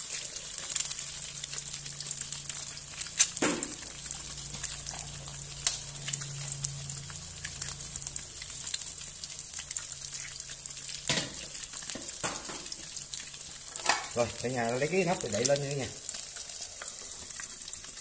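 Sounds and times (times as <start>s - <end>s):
eggs sizzling in oil: 0.0s - 18.0s
oil popping and crackling: 0.0s - 18.0s.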